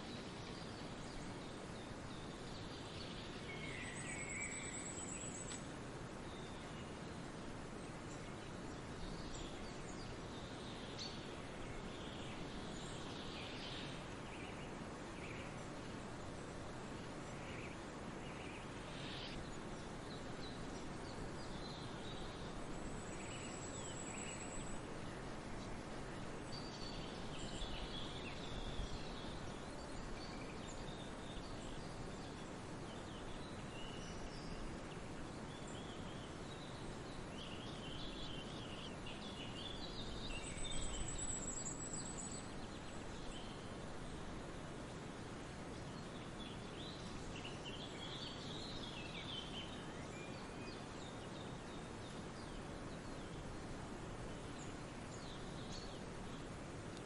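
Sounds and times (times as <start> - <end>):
songbirds chirping: 0.0 - 57.0
wind in the trees: 0.0 - 57.0.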